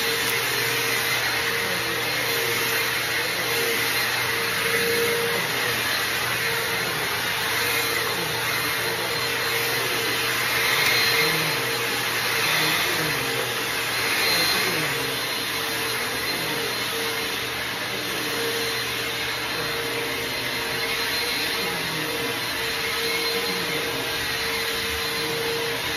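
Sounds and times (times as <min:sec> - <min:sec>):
vacuum cleaner running: 0:00.0 - 0:25.9.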